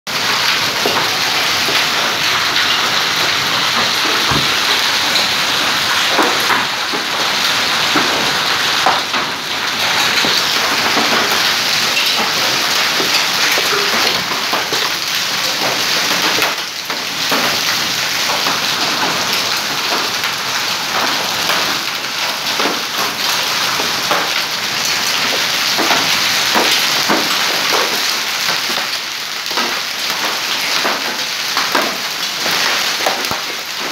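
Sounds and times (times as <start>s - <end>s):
hail and rain on paving stones: 0.1s - 33.9s.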